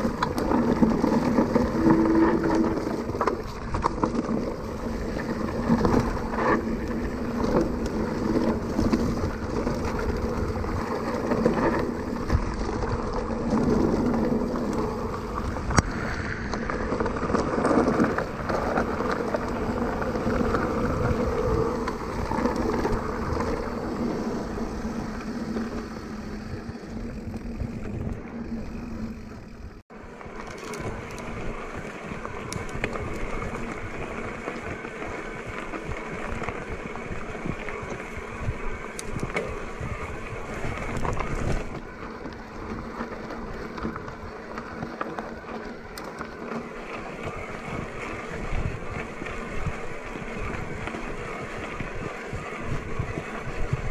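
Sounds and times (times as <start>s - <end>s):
wind noise on microphone: 0.0s - 53.9s.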